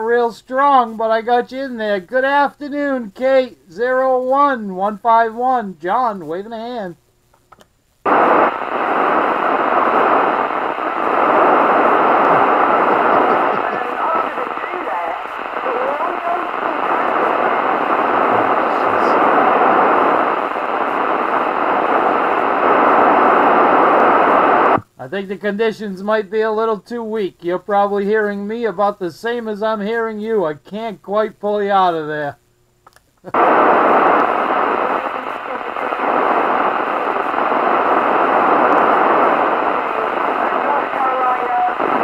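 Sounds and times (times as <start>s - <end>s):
radio static hiss: 0.0s - 32.5s, 33.2s - 42.0s.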